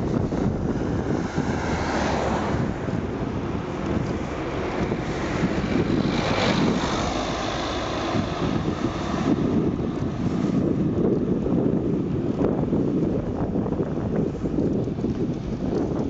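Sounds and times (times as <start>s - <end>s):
car engine and tyre noise: 0.0s - 16.0s
wind rumble on microphone: 0.0s - 16.0s.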